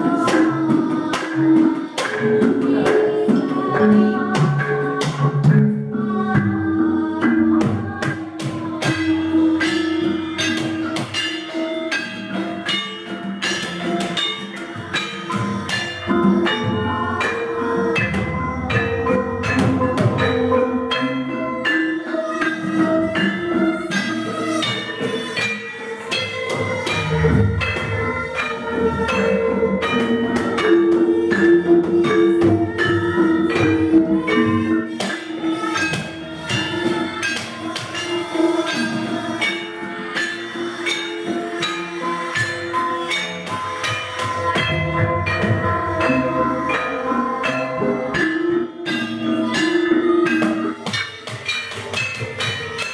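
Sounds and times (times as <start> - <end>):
girl singing through loudspeaker: 0.0 - 11.1, 14.5 - 20.2, 22.0 - 43.0, 43.6 - 50.9
hand drums: 0.0 - 52.9
metallophones and gong-chimes: 0.0 - 52.9.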